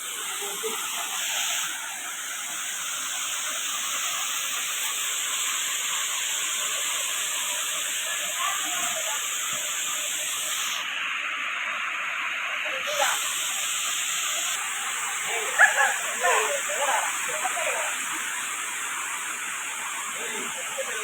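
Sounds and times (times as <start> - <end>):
waterfall splashing into pool: 0.0 - 21.0.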